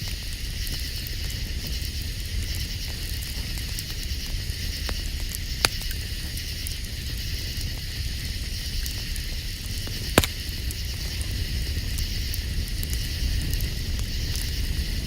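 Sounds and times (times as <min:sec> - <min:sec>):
campfire crackling and popping: 0:00.0 - 0:15.0
night insects chorus: 0:00.0 - 0:15.0.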